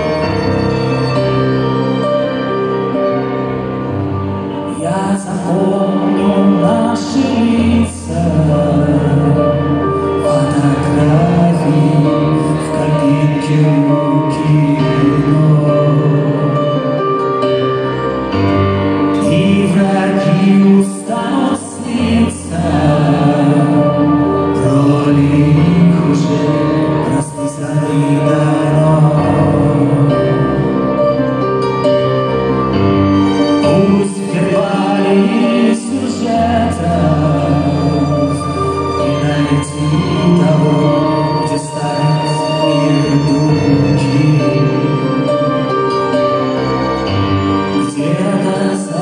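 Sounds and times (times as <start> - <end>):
violins and cello holding notes: 0.0 - 49.0
person singing: 4.0 - 49.0.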